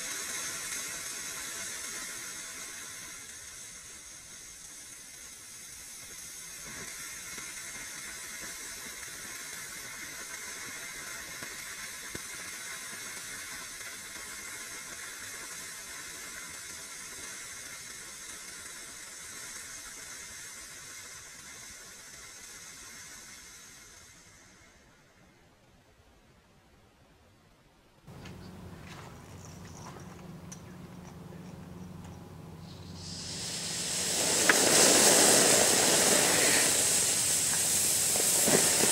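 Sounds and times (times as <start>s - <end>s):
rocket motor hissing rush: 0.0s - 25.0s, 28.1s - 38.9s.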